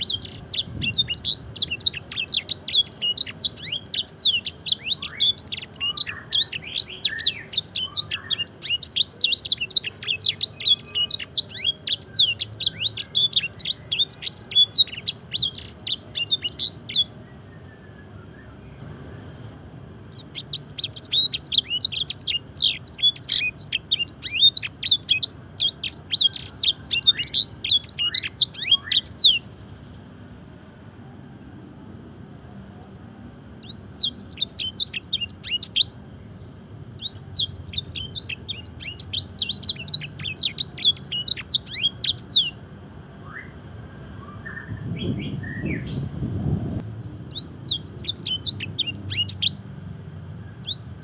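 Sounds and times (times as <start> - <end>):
canary singing trills: 0.0 - 19.4, 20.0 - 30.2, 33.6 - 46.1, 47.0 - 49.8, 50.4 - 51.0.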